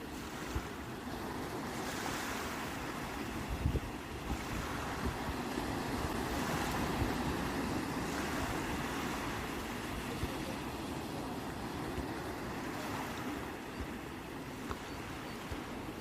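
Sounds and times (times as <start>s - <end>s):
sea surf washing: 0.0s - 16.0s
wind rumble on microphone: 0.0s - 16.0s.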